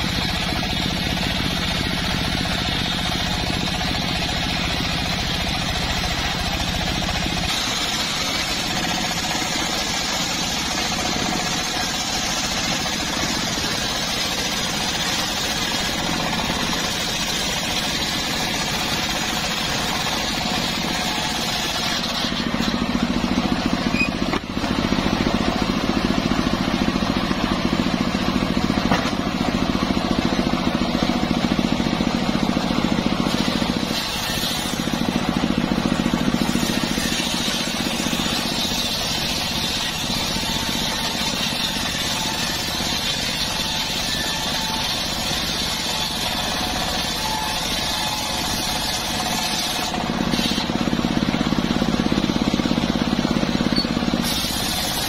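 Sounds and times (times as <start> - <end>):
circular sawmill cutting wood: 0.0 - 55.0.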